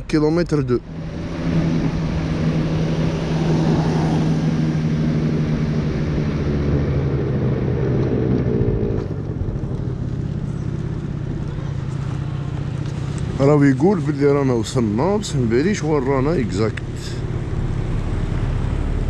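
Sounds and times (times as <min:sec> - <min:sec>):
road and wind noise: 0:00.0 - 0:19.0
scooter engine droning: 0:00.8 - 0:19.0.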